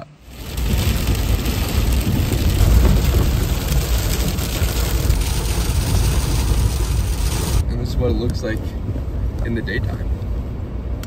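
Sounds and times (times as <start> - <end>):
vehicle low rumble: 0.0 - 11.0
rain pelting a windshield: 0.2 - 9.6.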